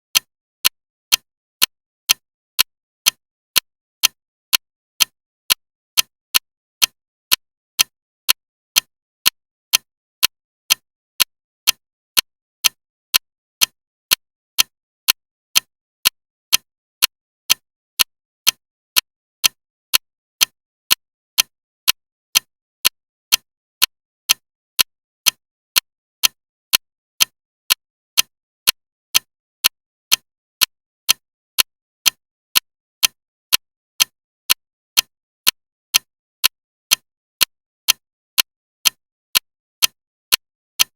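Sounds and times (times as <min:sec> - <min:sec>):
clock ticking: 0:00.2 - 0:40.9.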